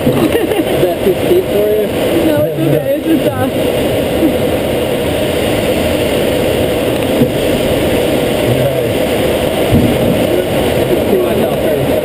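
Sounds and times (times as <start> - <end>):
airflow rushing around cockpit: 0.0 - 12.0.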